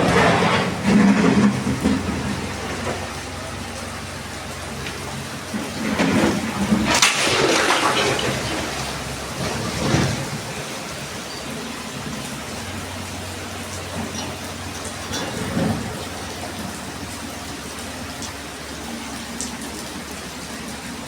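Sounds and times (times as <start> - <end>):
river rushing in flood: 0.0 - 21.0.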